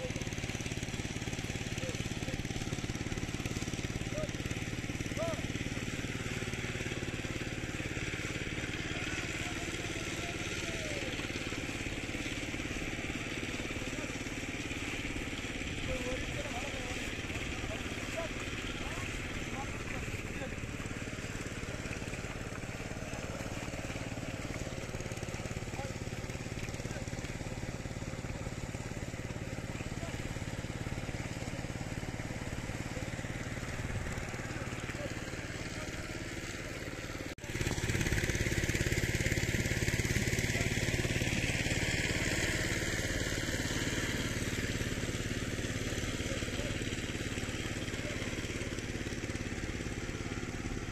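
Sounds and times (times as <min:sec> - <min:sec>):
small engine puttering: 0:00.0 - 0:50.9.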